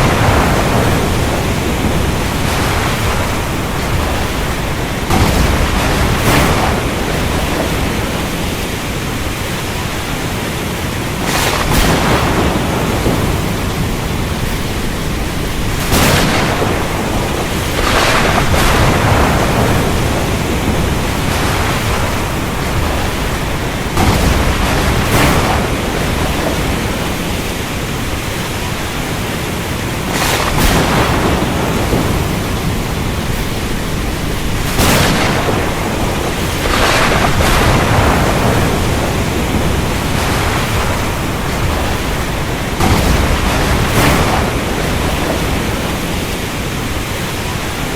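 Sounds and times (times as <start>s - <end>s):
heavy rain: 0.0s - 47.9s
thunder claps and rumbles: 0.0s - 47.9s.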